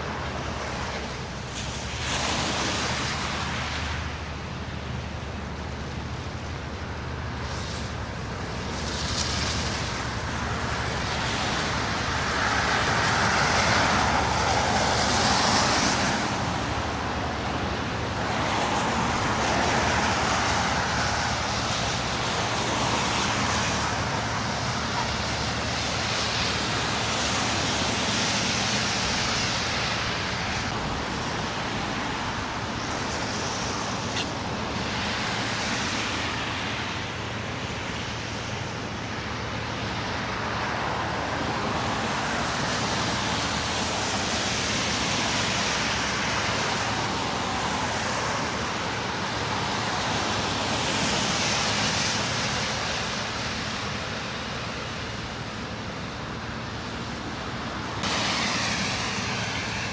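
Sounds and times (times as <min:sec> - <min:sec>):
cars passing on road: 0:00.0 - 0:59.9.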